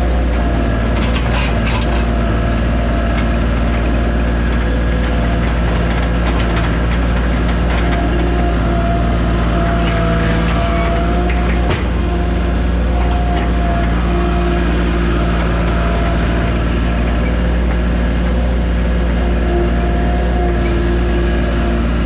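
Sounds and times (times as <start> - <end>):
tractor diesel engine: 0.0 - 22.0.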